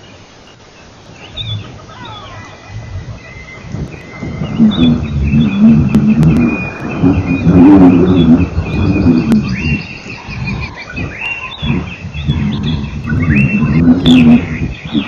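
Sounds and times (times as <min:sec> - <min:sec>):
birds chirping and whistling: 0:00.0 - 0:15.0
low wavering hum: 0:00.0 - 0:15.0.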